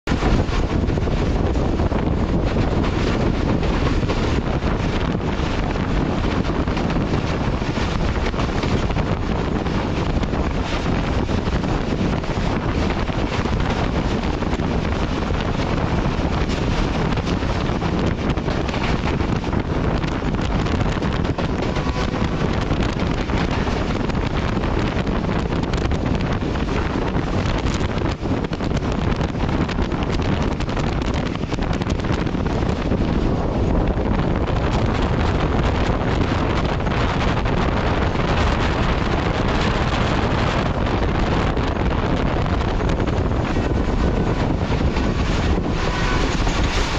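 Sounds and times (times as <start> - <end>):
train running noise: 0.0 - 46.9
wind buffeting microphone: 0.0 - 46.9.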